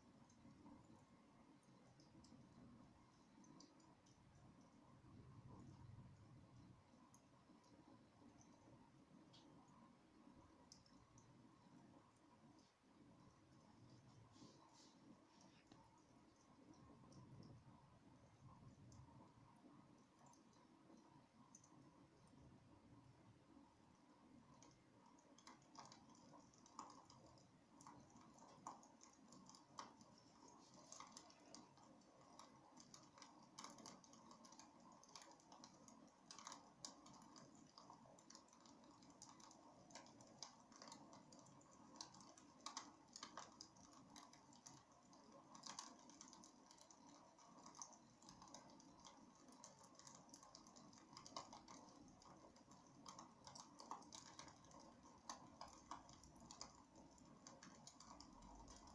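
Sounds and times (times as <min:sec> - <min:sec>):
soft hiss: 0:00.0 - 0:58.9.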